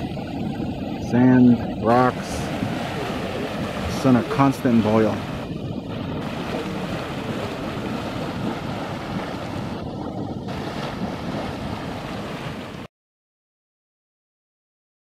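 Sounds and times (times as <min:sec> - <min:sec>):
boiling mud pot churning: 0:00.0 - 0:12.9
wind on microphone: 0:00.0 - 0:12.9.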